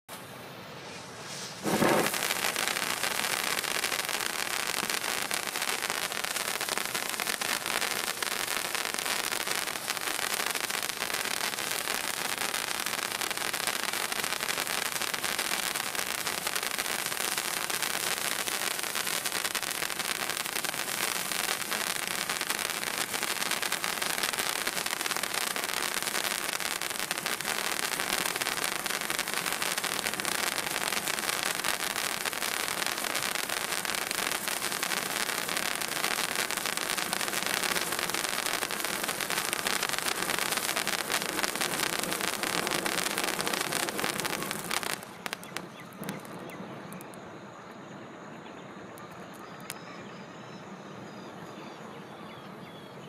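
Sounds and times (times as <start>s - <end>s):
firework fountain hissing and crackling: 0.1s - 47.2s.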